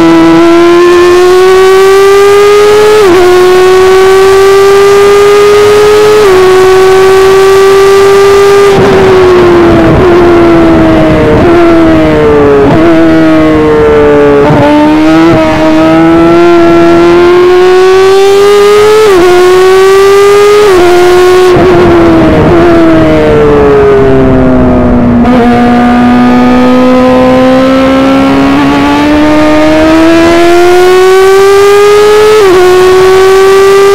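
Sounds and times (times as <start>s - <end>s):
racing car engine revving: 0.0s - 33.9s.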